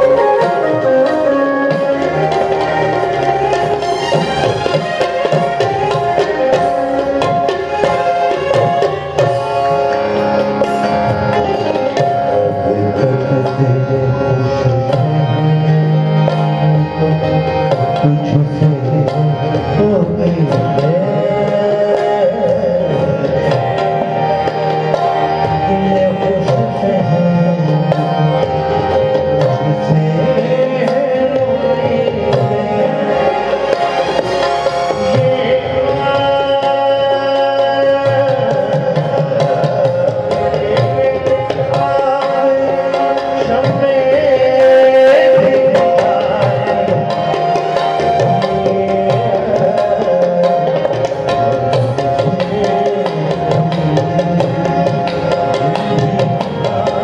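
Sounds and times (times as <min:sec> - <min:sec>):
harmonium chords: 0:00.0 - 0:57.0
tabla strokes: 0:00.0 - 0:57.0.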